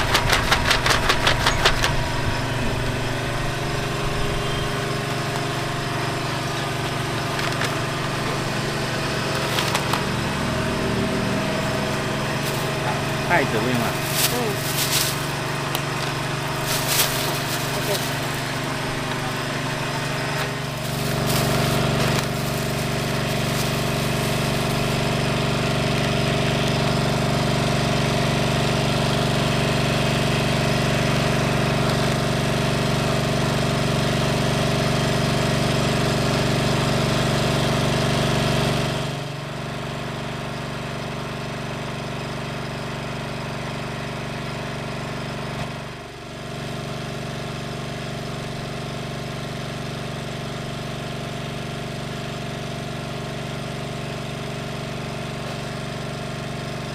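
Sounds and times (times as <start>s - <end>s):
small engine humming: 0.0s - 56.9s.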